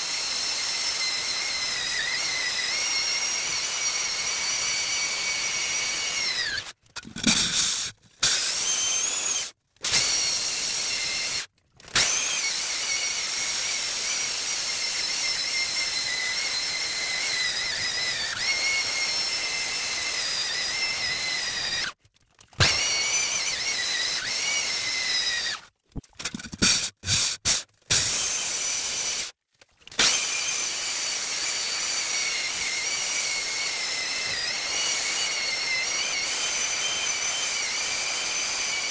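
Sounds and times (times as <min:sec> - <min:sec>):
core drill motor whine: 0:00.0 - 0:22.0, 0:22.6 - 0:25.6, 0:29.9 - 0:38.9
drill bit grinding rock: 0:00.0 - 0:22.0, 0:22.6 - 0:38.9.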